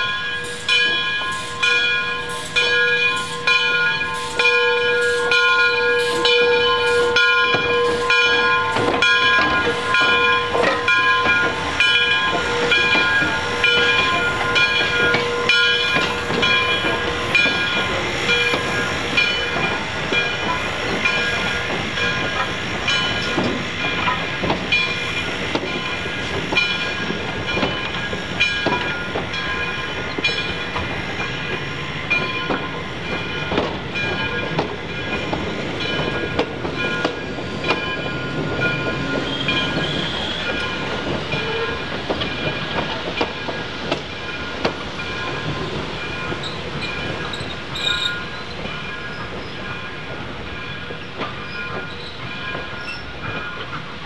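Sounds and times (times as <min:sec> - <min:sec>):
locomotive bell ringing: 0:00.0 - 0:54.0
moving train rumble and clatter: 0:00.0 - 0:54.0.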